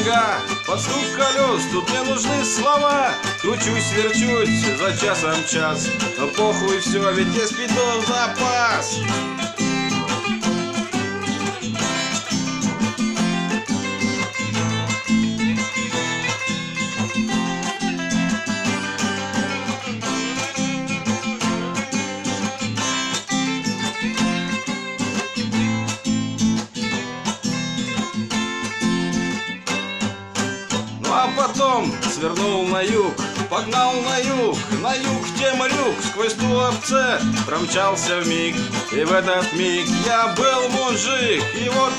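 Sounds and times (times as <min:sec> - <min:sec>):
strummed and plucked guitar: 0:00.0 - 0:41.9.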